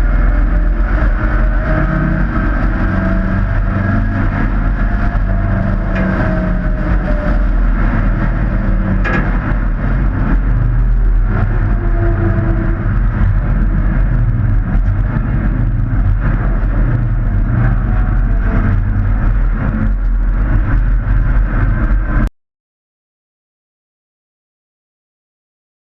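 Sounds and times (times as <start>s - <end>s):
race truck engines droning: 0.0s - 22.3s.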